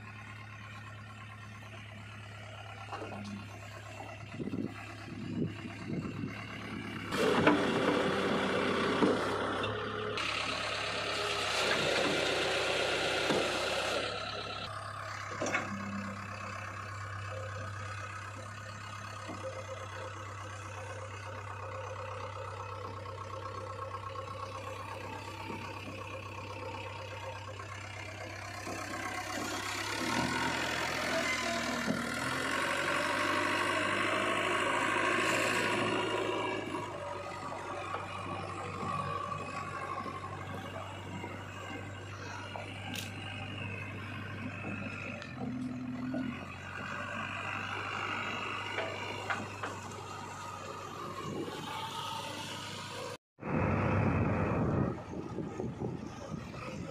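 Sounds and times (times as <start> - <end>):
diesel engine running and revving: 0.0 - 56.9.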